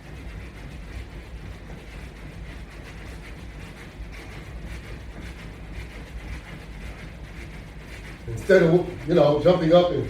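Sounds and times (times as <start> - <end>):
soft jogging footsteps: 0.0 - 10.0.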